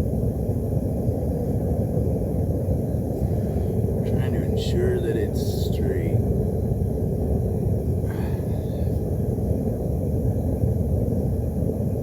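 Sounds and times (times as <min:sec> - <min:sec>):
forge burner roaring: 0:00.0 - 0:12.0.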